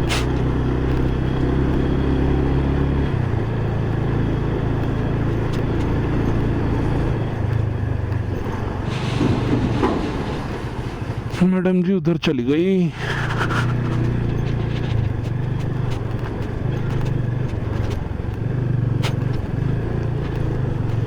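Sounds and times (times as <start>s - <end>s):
motorcycle engine running: 0.0s - 11.4s, 12.9s - 21.0s
wind and road noise: 0.0s - 21.0s.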